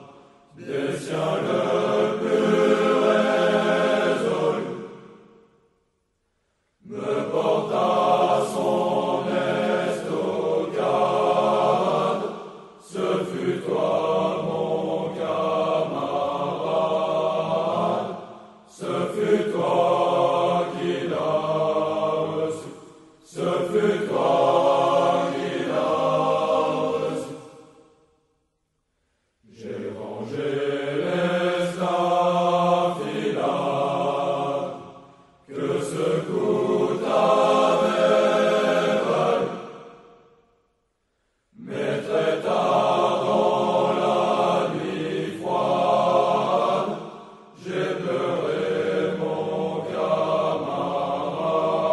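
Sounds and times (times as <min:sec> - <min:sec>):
voices singing unaccompanied: 0:00.0 - 0:05.6, 0:06.8 - 0:28.3, 0:29.4 - 0:40.5, 0:41.4 - 0:51.9.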